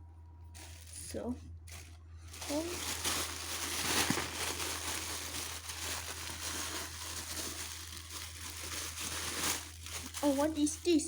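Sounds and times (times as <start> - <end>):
steady low hum: 0.0 - 11.0
packaging rustling and crinkling: 0.5 - 11.0.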